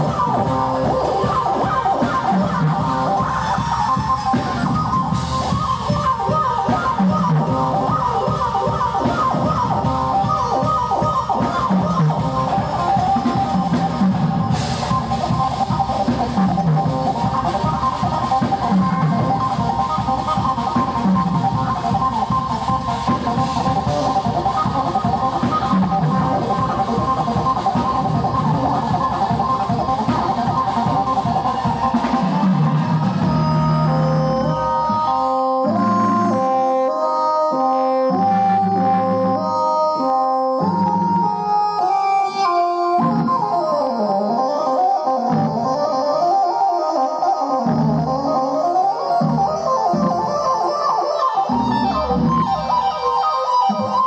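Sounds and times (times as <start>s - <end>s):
jazz-fusion band playing live: 0.0s - 54.0s.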